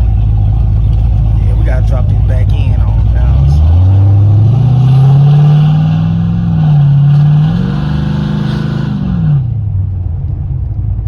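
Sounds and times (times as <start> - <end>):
engine revving: 0.0 - 9.6.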